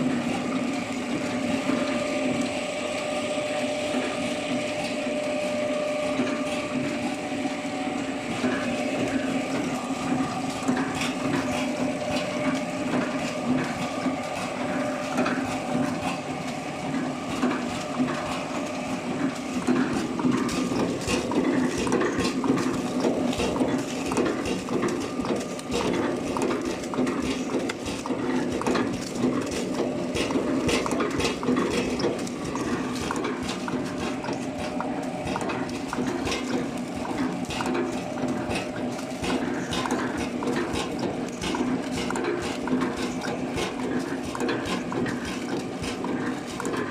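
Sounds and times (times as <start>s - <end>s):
packaging machine running: 0.0s - 46.9s.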